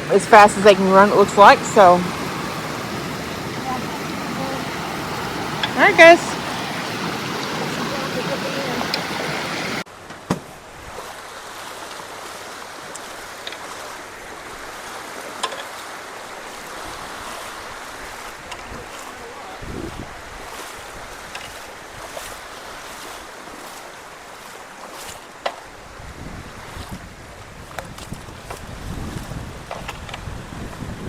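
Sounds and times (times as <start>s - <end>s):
floodwater rushing through culverts: 0.0s - 31.0s.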